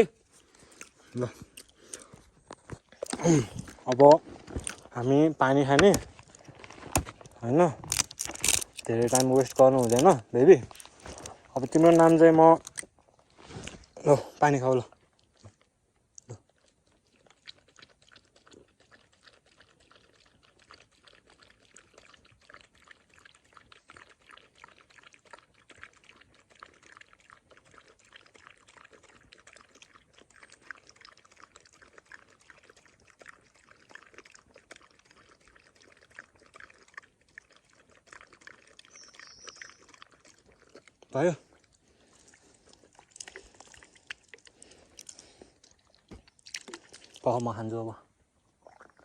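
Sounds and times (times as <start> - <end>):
dog lapping water: 0.5 - 12.9, 16.2 - 47.8.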